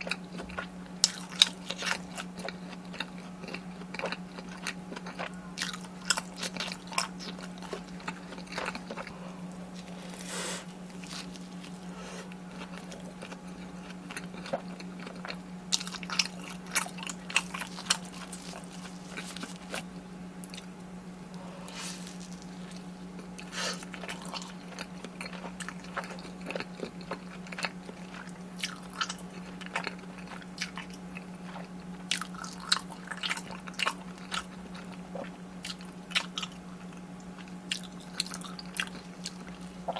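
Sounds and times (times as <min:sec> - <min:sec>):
crunchy eating and chewing: 0:00.0 - 0:39.9
steady low hum: 0:00.0 - 0:39.9.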